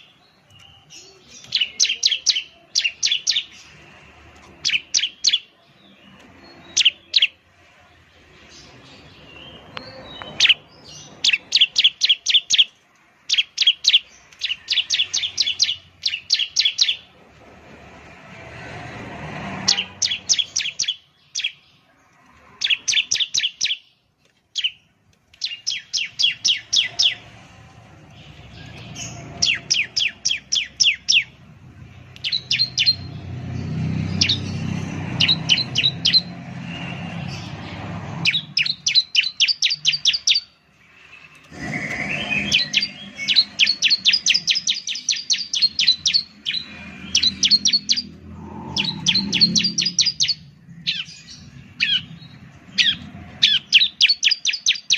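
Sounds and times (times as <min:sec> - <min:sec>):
bird sharp chirps: 0:00.0 - 0:03.7, 0:08.6 - 0:17.1, 0:19.7 - 0:21.8, 0:22.6 - 0:24.0, 0:24.6 - 0:27.3, 0:28.1 - 0:31.4, 0:32.2 - 0:54.9.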